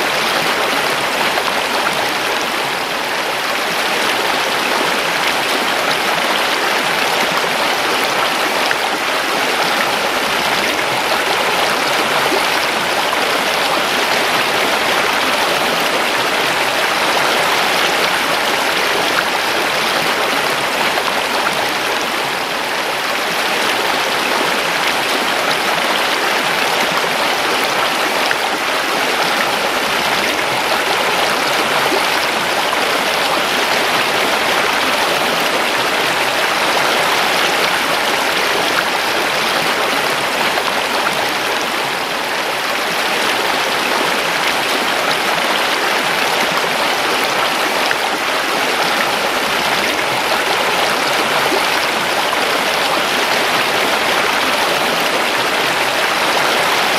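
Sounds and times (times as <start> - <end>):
river water rushing over rocks: 0.0 - 56.9.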